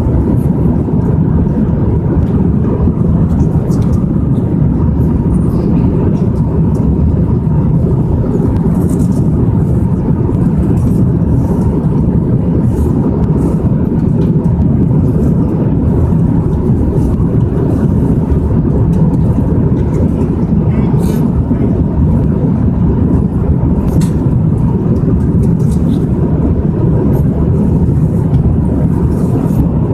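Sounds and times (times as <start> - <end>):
airliner engines and airflow rumble: 0.0 - 29.9.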